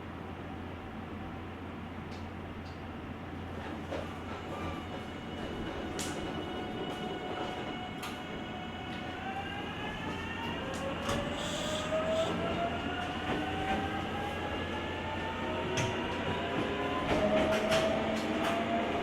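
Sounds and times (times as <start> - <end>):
wheels rumbling on rail: 2.1 - 19.0.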